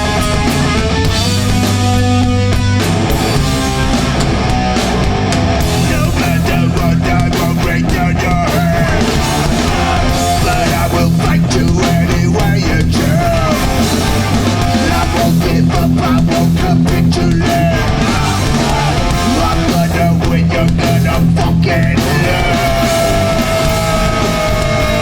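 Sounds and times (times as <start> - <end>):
punk band playing live: 0.0 - 25.0.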